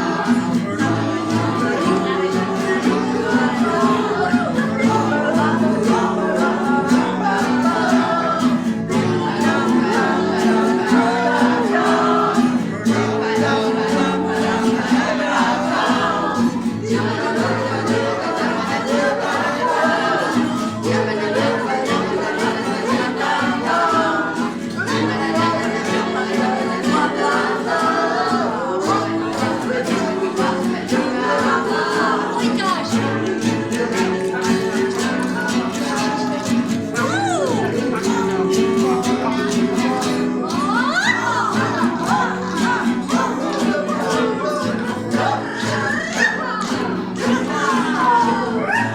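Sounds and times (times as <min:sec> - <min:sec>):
group of voices singing: 0:00.0 - 0:48.9.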